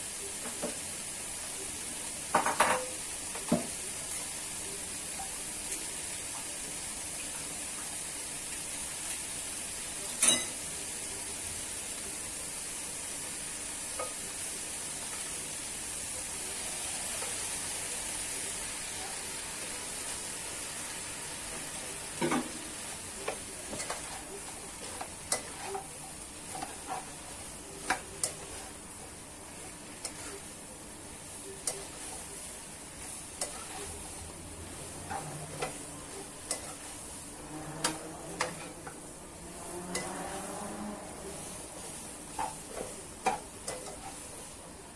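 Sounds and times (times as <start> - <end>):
food sizzling in a wok: 0.0 - 44.9.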